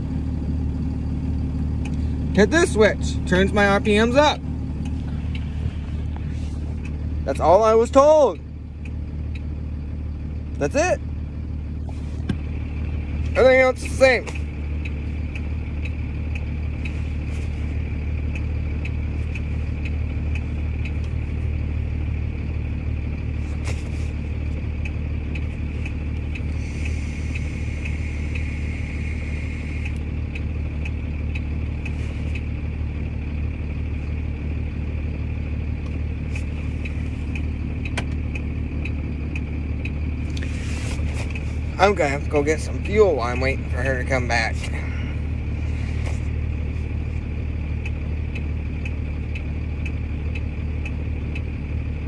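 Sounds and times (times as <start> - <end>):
truck engine humming: 0.0 - 52.0.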